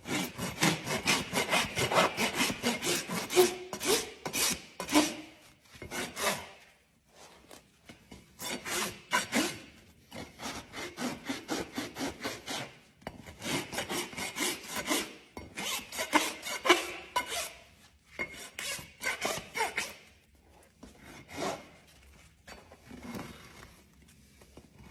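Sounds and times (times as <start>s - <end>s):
rasp filing a hoof: 0.0s - 20.2s, 20.8s - 23.8s.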